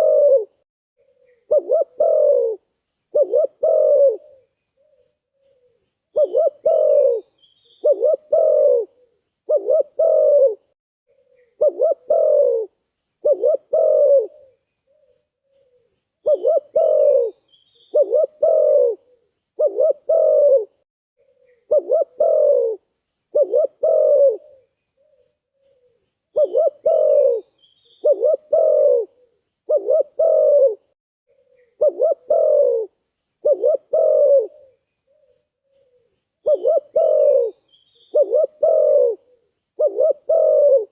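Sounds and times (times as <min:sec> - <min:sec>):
dove cooing: 0:00.0 - 0:40.9
small birds chirping: 0:01.0 - 0:10.4, 0:11.1 - 0:20.6, 0:21.2 - 0:30.7, 0:31.3 - 0:40.9.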